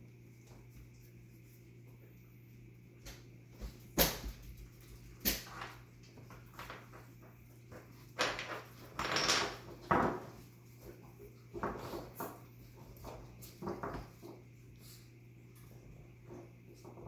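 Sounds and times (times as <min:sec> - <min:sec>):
faint low hum: 0:00.0 - 0:17.0
puppies scuffling: 0:03.0 - 0:17.0.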